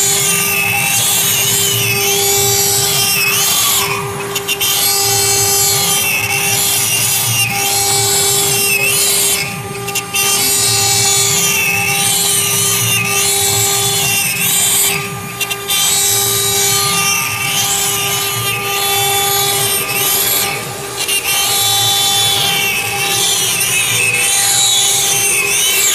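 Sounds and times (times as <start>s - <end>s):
bit engraving wood hiss: 0.0s - 25.9s
router spindle whine: 0.0s - 25.9s.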